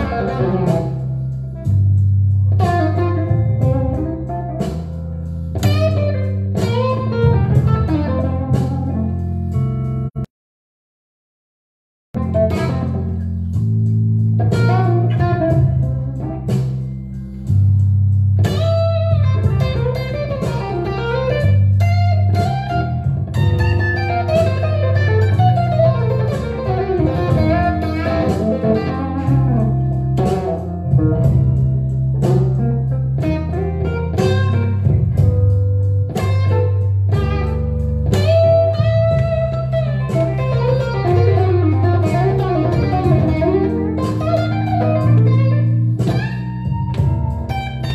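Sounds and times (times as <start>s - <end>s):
electric guitar blues lead: 0.0s - 10.1s, 12.2s - 47.9s
steady bass line: 0.0s - 10.3s, 12.2s - 47.9s.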